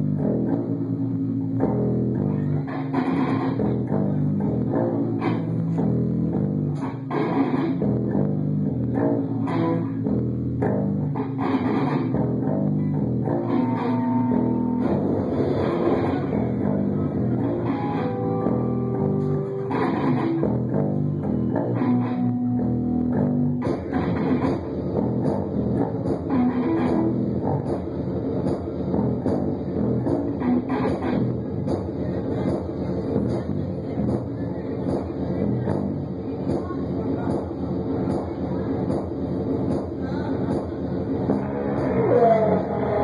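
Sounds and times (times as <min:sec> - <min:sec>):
electric guitar: 0:00.0 - 0:34.3, 0:41.2 - 0:43.0
bass guitar: 0:00.0 - 0:43.0.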